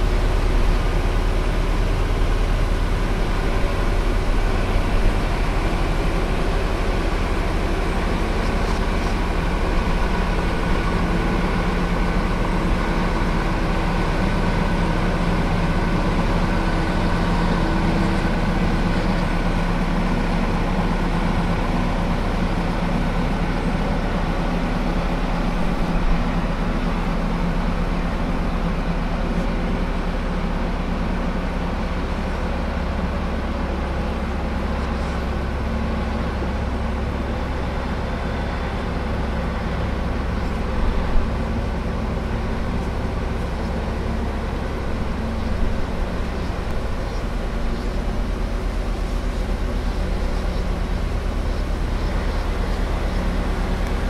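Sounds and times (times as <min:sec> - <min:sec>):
heavy vehicle engine droning: 0:00.0 - 0:54.0.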